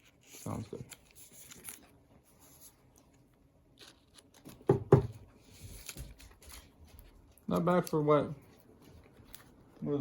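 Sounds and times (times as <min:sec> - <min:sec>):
cards rustling and sliding: 0:00.0 - 0:04.7, 0:05.3 - 0:09.7.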